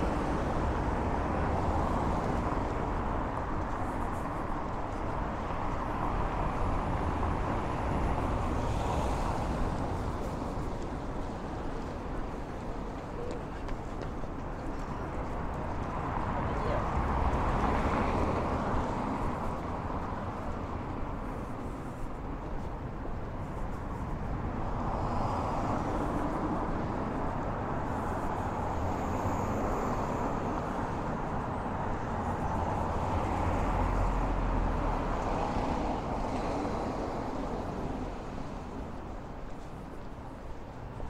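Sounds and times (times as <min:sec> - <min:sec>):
cars passing: 0:00.0 - 0:41.0.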